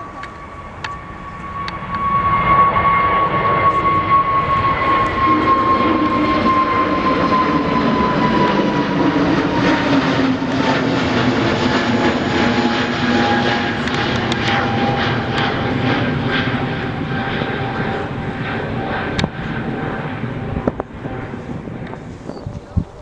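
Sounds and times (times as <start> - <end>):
jet airliner passing: 0.0 - 23.0.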